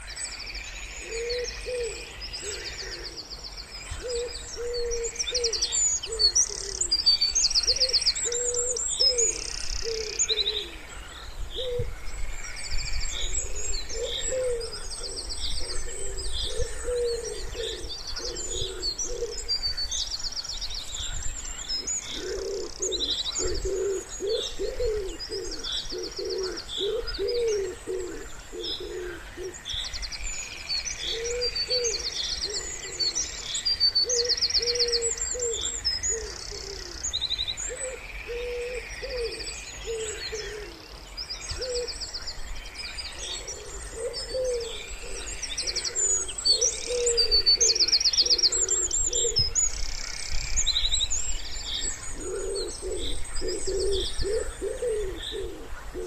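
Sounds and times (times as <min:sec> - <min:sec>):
songbirds trilling and chirping: 0:00.0 - 0:56.0
wood pigeons cooing: 0:01.0 - 0:07.0, 0:07.6 - 0:12.0, 0:13.2 - 0:19.6, 0:21.6 - 0:29.8, 0:31.0 - 0:33.4, 0:34.0 - 0:42.0, 0:43.1 - 0:49.8, 0:51.8 - 0:56.0.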